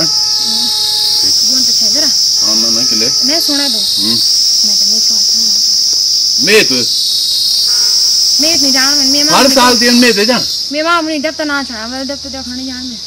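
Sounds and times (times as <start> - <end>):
voices talking: 0.0 - 7.0, 8.4 - 13.0
high-pitched insect drone: 0.0 - 13.0.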